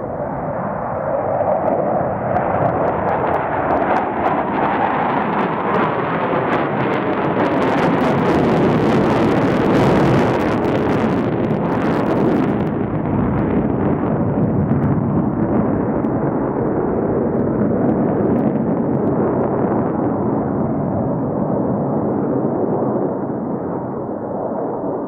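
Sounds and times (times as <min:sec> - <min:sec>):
jet engines rushing and crackling: 0:00.0 - 0:25.0.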